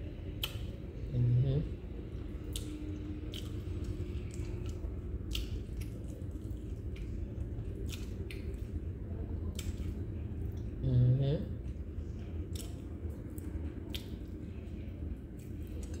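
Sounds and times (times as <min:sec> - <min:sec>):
low steady hum: 0:00.0 - 0:16.0
chewing with wet clicks: 0:00.2 - 0:00.9, 0:02.0 - 0:10.8, 0:11.6 - 0:16.0.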